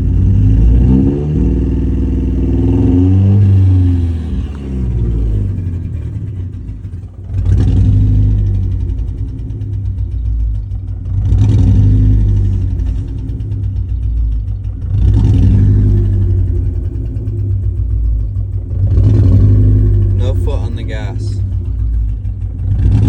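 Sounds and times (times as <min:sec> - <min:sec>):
car engine misfiring and revving: 0:00.0 - 0:23.0.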